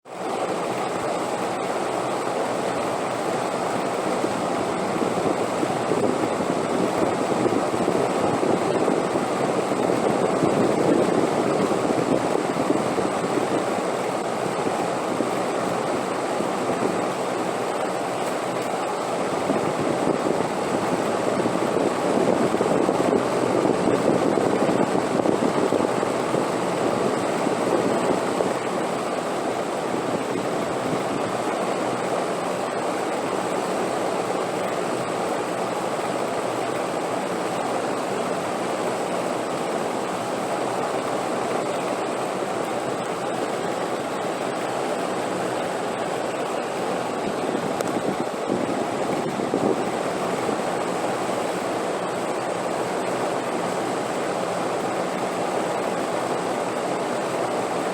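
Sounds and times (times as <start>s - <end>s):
wind blowing: 3.8s - 34.0s, 38.6s - 57.8s.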